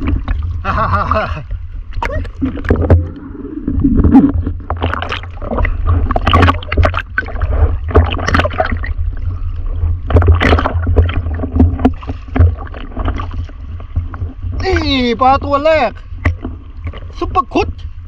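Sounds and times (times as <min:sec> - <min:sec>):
steady low rumble: 0:00.0 - 0:18.0
water splashing and gurgling: 0:00.0 - 0:18.0.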